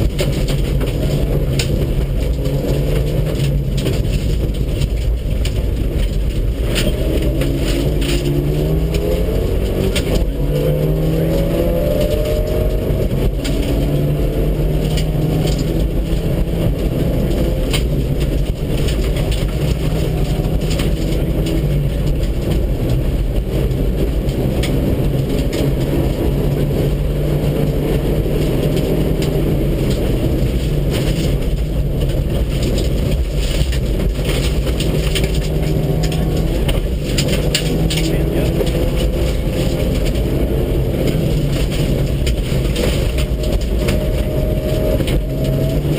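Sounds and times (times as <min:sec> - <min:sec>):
rally car engine accelerating: 0:00.0 - 0:45.9
sharp clicks and knocks: 0:00.0 - 0:45.9.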